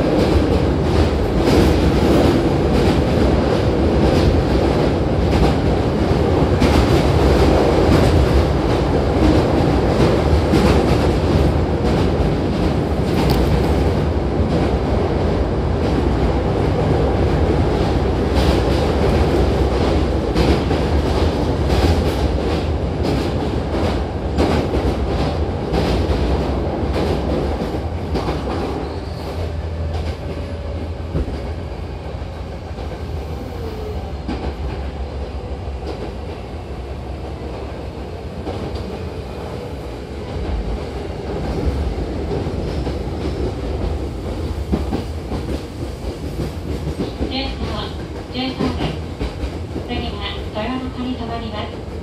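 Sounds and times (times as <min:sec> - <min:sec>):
train car rumble: 0:00.0 - 0:52.0.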